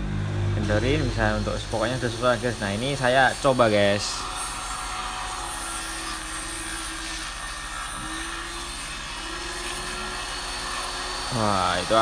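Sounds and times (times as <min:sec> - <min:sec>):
circular saw cutting a board: 0:00.5 - 0:12.0.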